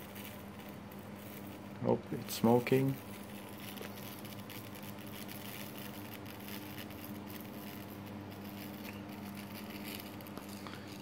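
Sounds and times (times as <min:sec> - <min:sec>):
arc lamp humming and crackling: 0:00.0 - 0:11.0.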